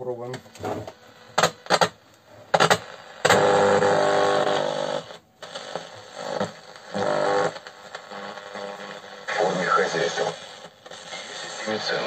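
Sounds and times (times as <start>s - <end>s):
transistor radio playing loudly: 0.0s - 12.0s.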